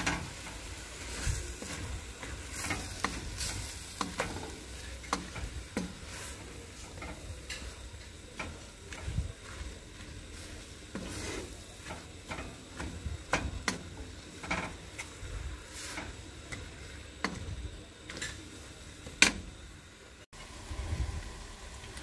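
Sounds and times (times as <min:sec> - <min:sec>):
onions sauteing: 0:00.0 - 0:22.0.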